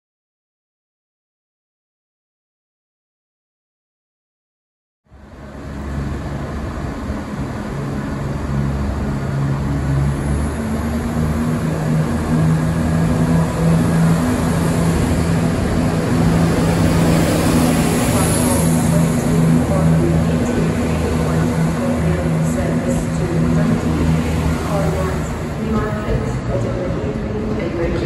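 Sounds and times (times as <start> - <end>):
diesel train engine droning: 5.1 - 28.0.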